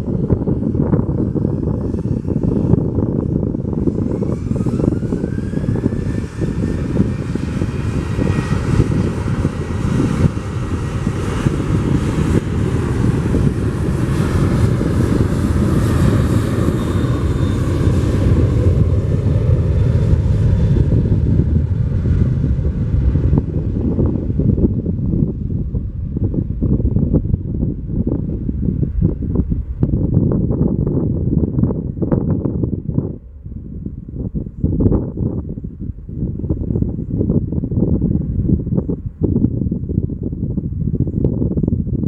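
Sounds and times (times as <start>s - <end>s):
jet engines spooling up: 0.0s - 39.0s.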